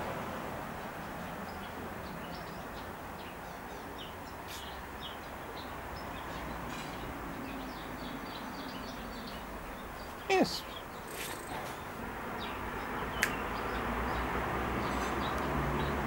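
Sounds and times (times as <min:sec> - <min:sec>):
small birds chirping: 0:00.8 - 0:16.0.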